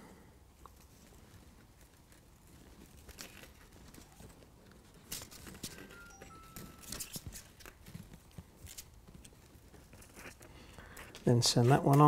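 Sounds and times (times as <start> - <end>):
wire strands rustling: 0.7 - 12.0.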